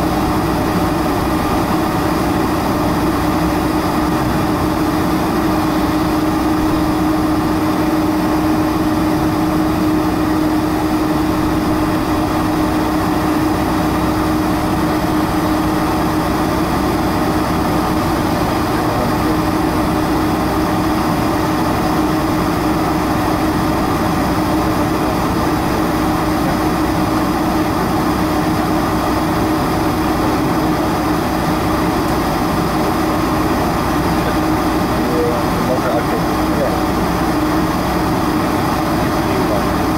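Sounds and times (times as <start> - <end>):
aircraft engines idling drone: 0.0 - 39.9.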